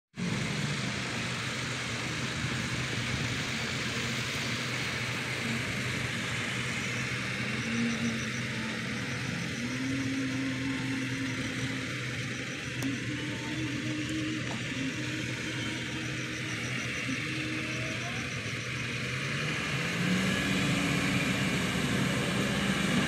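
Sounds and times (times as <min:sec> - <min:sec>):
diesel engines humming: 0:00.1 - 0:23.0.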